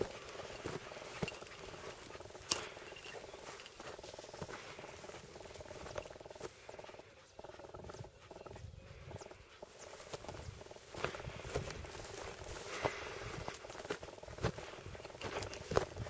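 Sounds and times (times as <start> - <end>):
footsteps through dry grass: 0.0 - 16.0.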